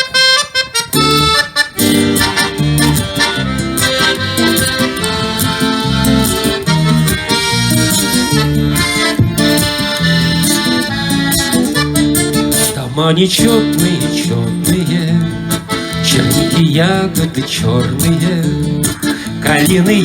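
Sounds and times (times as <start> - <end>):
accordion playing: 0.0 - 20.0.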